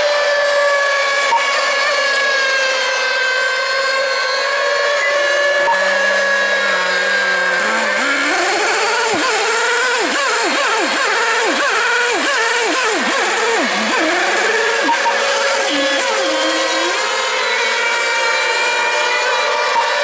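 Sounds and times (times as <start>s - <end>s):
rc boat engines whining: 0.0s - 20.0s.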